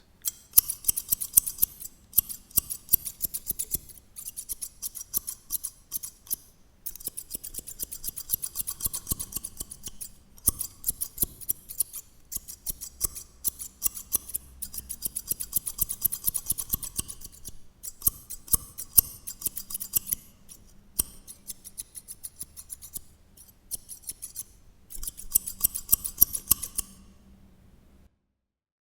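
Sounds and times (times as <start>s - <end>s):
scissors snipping: 0.2s - 27.0s.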